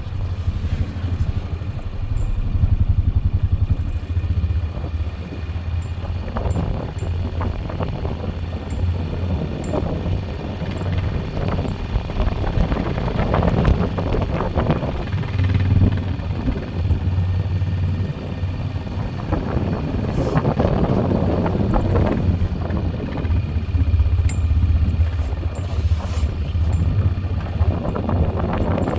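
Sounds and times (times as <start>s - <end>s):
atv engine running: 0.0s - 28.9s.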